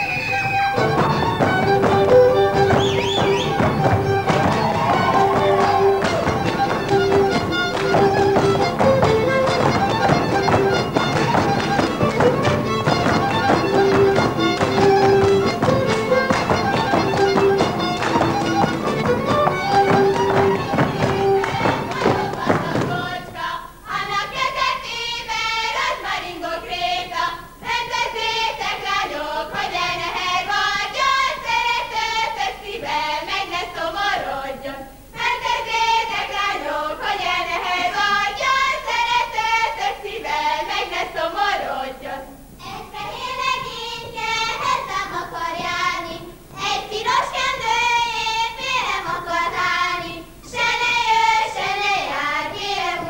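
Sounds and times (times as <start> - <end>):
instrumental folk dance music: 0.0 - 25.9, 26.8 - 53.0
women singing unaccompanied: 0.0 - 53.0.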